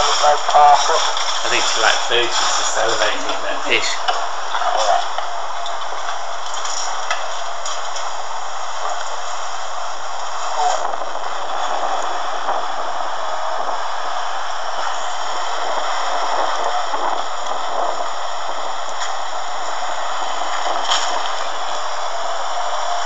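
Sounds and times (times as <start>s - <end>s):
faint crackle: 0.0s - 23.0s
steady rushing noise: 0.0s - 23.0s.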